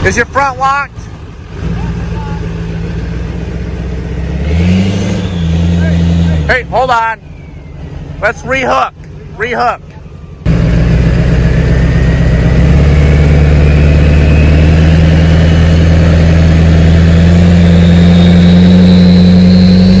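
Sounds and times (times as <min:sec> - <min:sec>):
truck engine running under load: 0:00.0 - 0:20.0
thin whine climbing in pitch: 0:01.8 - 0:20.0.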